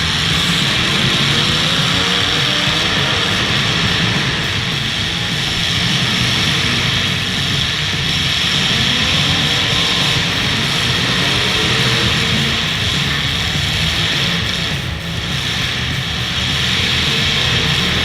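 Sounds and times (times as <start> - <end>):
car engines running hard: 0.0 - 18.0.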